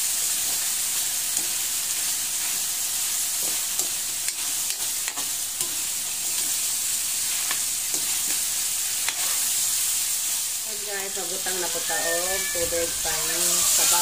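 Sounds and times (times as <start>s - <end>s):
chicken frying with sizzle: 0.0s - 14.0s.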